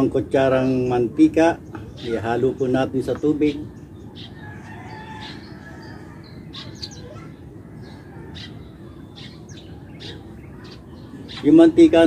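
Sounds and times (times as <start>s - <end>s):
birds chirping: 0.0s - 12.0s
low background hum: 0.0s - 12.0s.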